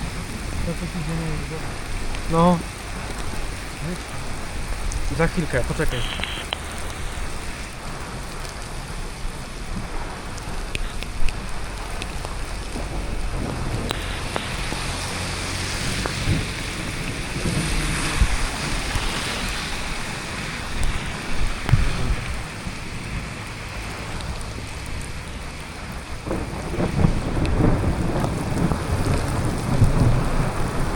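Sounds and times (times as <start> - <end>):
steady rain falling: 0.0 - 30.9
wind buffeting microphone: 0.0 - 30.9.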